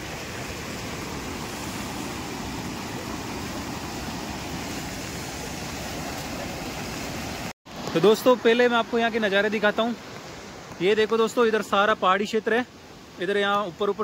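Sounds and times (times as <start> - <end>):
rushing stream water: 0.0 - 14.0.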